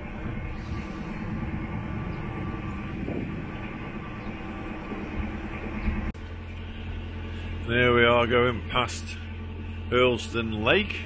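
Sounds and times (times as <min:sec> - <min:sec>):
boat diesel engine droning: 0:00.0 - 0:11.0.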